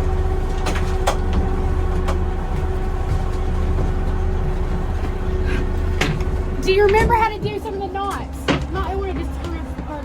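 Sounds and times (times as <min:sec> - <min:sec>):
boat motor droning: 0:00.0 - 0:10.0.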